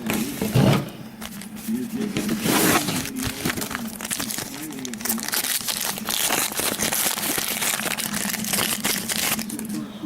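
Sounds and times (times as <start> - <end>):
wrappers crinkling: 1.2 - 9.8.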